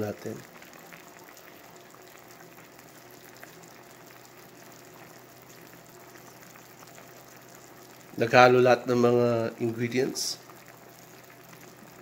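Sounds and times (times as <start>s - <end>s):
low steady hum: 0.0s - 12.0s
sauce simmering in a frying pan: 0.0s - 12.0s.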